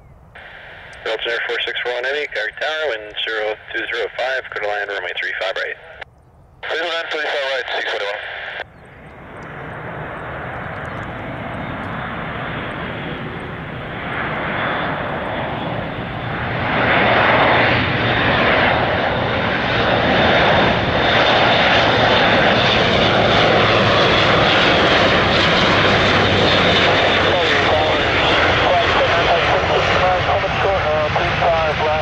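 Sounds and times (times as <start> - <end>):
turboprop aircraft engines: 0.0 - 32.0.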